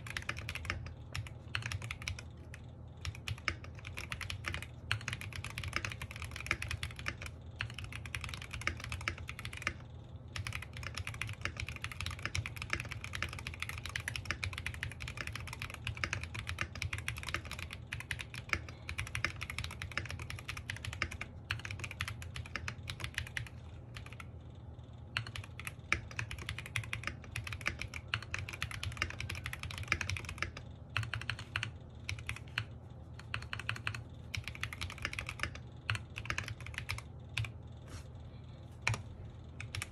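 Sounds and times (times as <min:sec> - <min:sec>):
mechanical keyboard typing: 0:00.0 - 0:24.3, 0:25.1 - 0:37.6, 0:38.8 - 0:39.9
steady low hum: 0:00.0 - 0:39.9.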